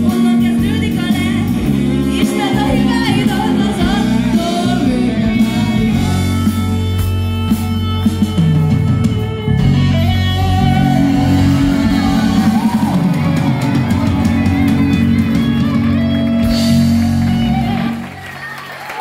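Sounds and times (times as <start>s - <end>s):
drum kit: 0.0s - 18.3s
bass guitar: 0.0s - 18.6s
electric guitar: 0.0s - 19.0s.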